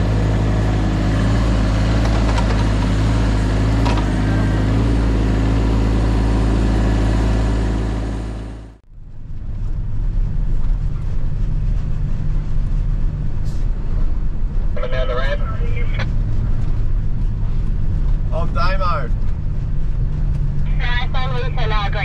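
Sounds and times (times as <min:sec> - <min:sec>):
deeper engine running: 0:00.0 - 0:22.0
diesel engine running: 0:00.0 - 0:22.0.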